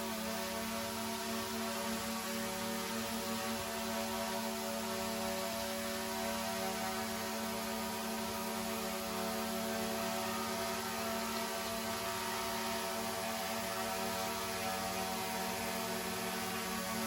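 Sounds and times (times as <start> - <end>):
drone propellers whirring: 0.1 - 17.0.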